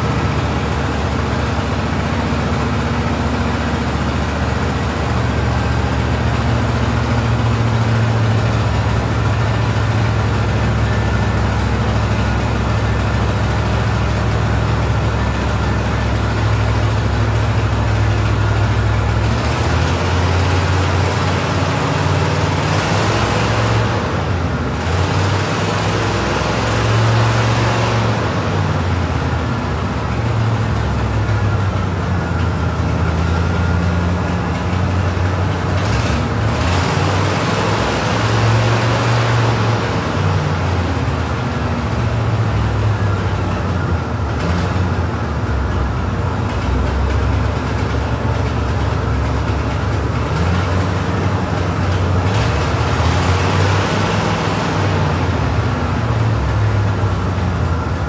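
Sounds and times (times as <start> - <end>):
car engines idling: 0.0 - 58.0.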